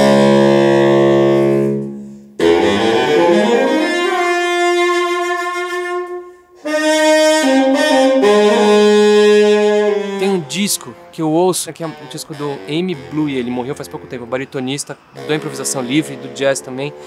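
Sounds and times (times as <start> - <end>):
baritone saxophone notes: 0.0 - 17.0.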